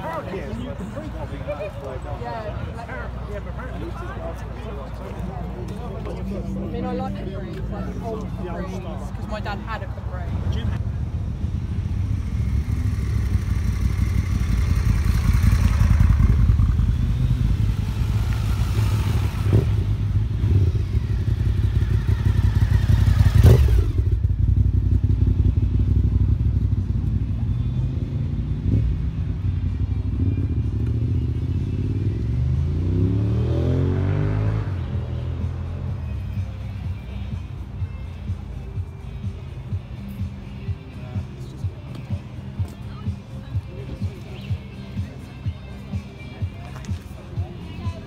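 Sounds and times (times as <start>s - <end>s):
motorcycle engines running: 0.0s - 48.0s.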